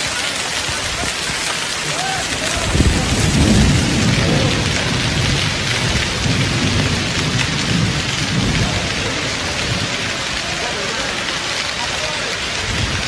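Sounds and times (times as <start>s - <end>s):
hail and heavy rain pelting: 0.0s - 13.0s.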